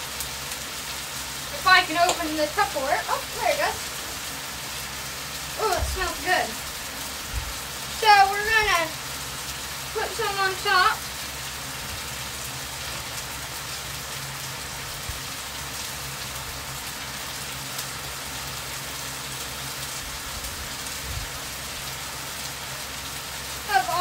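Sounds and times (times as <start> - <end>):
food sizzling on a griddle: 0.0 - 24.0.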